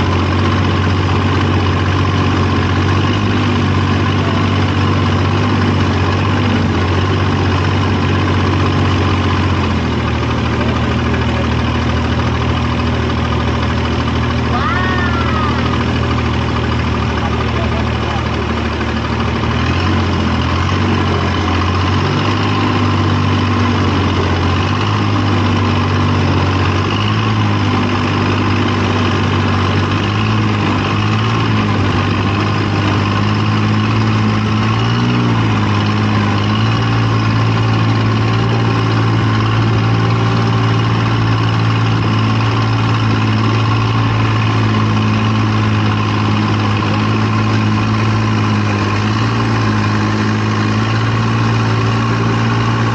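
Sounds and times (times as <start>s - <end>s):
engine running with low hum: 0.0s - 52.9s.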